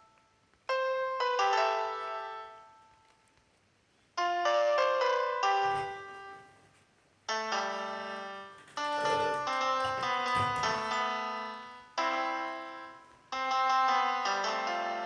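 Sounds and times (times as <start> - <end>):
soft piano music: 0.0 - 3.3, 4.2 - 15.0.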